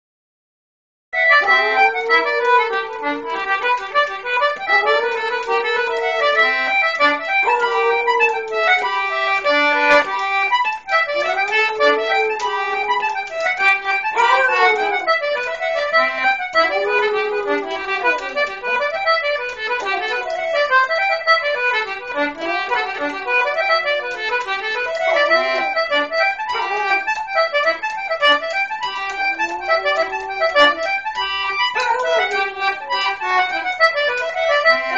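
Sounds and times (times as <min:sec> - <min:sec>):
dog howling: 0:01.2 - 0:10.1, 0:11.0 - 0:34.9.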